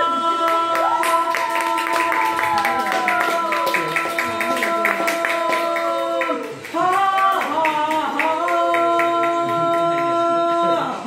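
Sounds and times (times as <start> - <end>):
hand clapping: 0.4 - 10.8.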